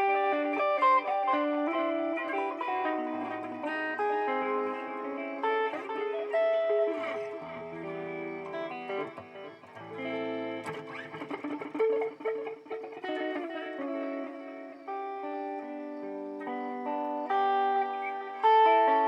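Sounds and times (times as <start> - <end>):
electric guitar with delay echoes: 0.0 - 19.0.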